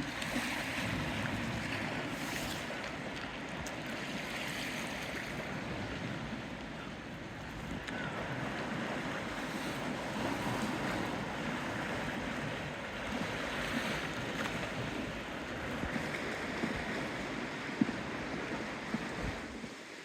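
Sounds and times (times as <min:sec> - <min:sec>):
waves washing against shore: 0:00.0 - 0:20.0.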